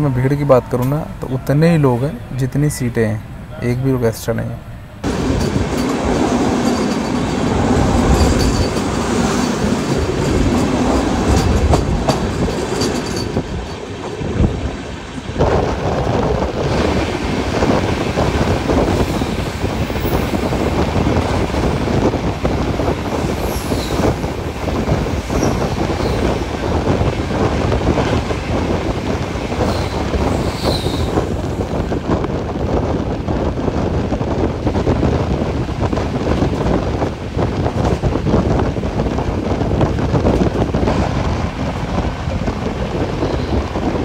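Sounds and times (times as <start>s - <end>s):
train rumbling and rattling: 0.0s - 44.0s.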